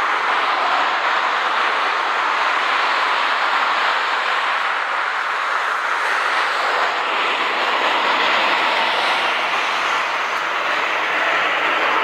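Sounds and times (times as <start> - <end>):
jet engines at taxi power: 0.0 - 12.0.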